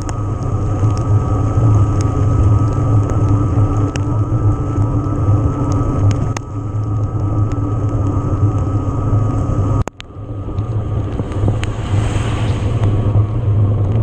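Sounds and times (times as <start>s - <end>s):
wind and tyre rumble: 0.0s - 14.0s.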